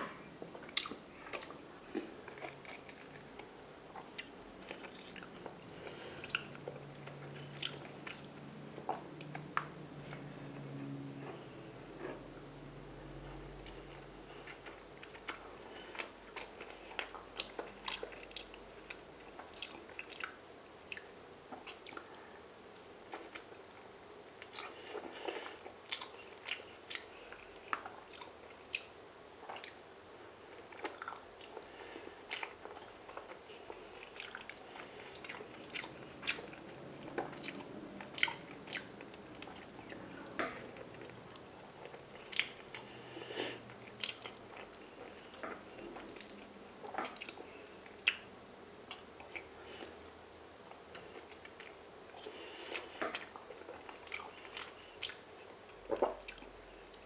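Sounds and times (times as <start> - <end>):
wet chewing and smacking: 0.6 - 29.9, 30.5 - 57.0.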